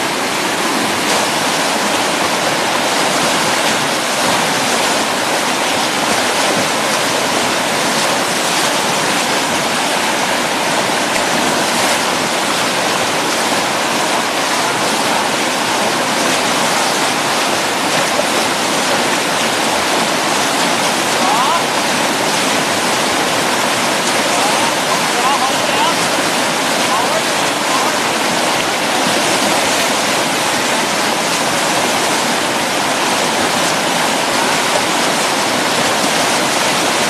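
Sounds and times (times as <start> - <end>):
river rapids roaring: 0.0 - 37.0.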